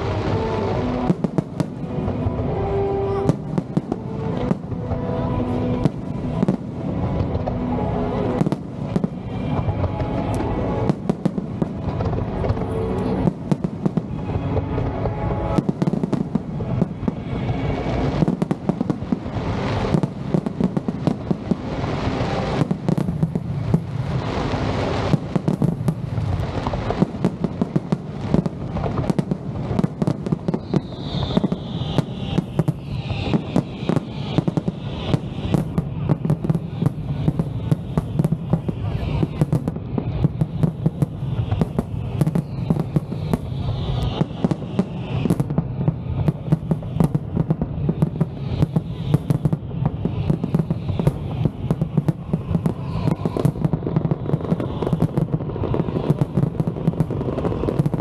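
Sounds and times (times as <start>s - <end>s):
fireworks bangs and crackles: 0.0s - 58.0s
falling firework whistles: 8.4s - 58.0s.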